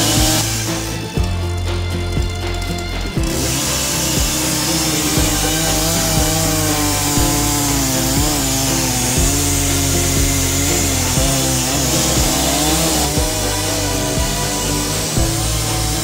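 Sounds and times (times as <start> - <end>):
background music with beat: 0.0 - 16.0
chainsaw cutting log: 0.0 - 16.0.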